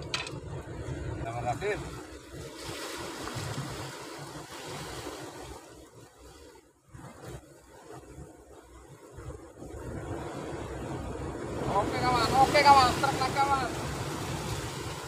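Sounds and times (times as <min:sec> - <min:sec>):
wind gusting on microphone: 0:00.0 - 0:06.0, 0:06.9 - 0:15.0
surf washing: 0:00.0 - 0:15.0.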